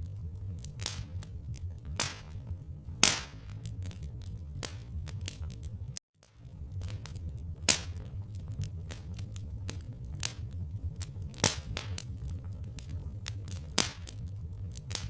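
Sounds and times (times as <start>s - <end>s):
log fire crackling and popping: 0.0s - 15.0s
steady low rumble: 0.0s - 15.0s.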